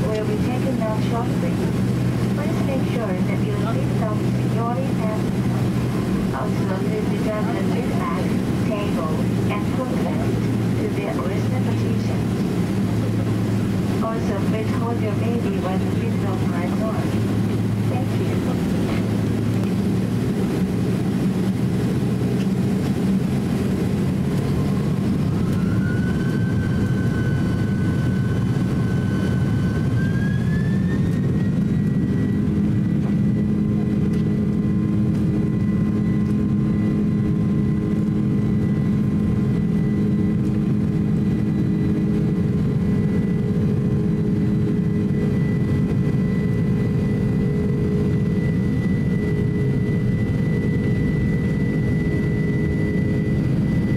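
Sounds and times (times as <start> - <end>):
deep rumble of takeoff roll: 0.0 - 53.9
jet engines whining: 0.0 - 53.9.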